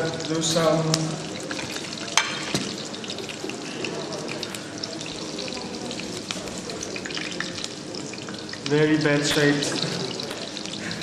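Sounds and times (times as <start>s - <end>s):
pancakes sizzling in hot oil: 0.0s - 11.0s.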